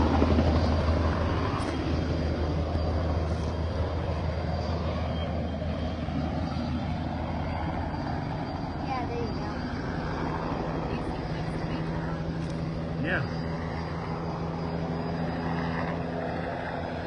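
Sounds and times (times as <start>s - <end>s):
helicopter droning overhead: 0.0s - 17.0s.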